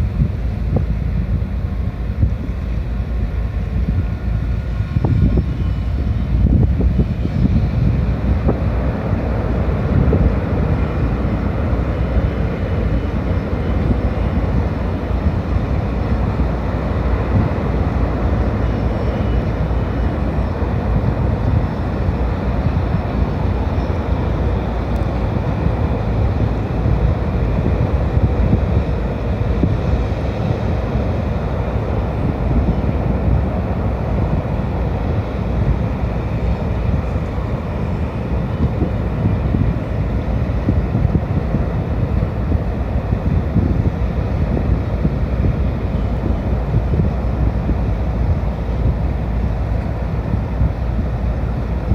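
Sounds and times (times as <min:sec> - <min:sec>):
ship engines rumbling: 0:00.0 - 0:51.9.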